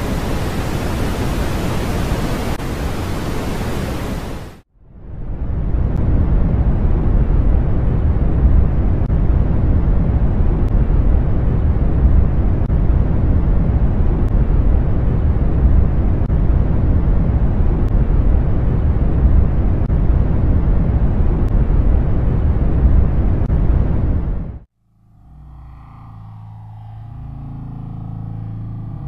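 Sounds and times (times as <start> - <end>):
deep rumbling noise: 0.0 - 29.0.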